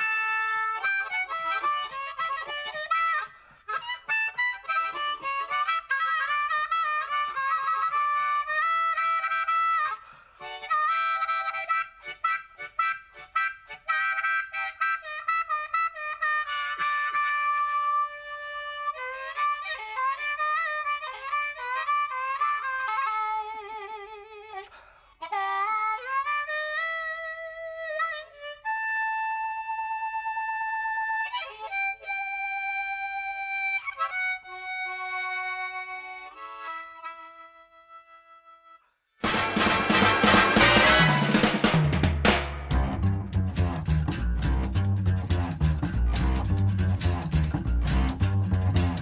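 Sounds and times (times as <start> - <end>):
slow reedy wind instrument melody: 0.0 - 41.9, 42.6 - 49.0.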